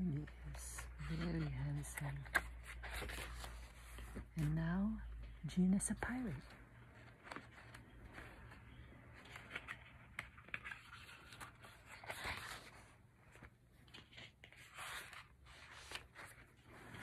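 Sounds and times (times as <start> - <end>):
book pages turning: 0.0 - 17.0.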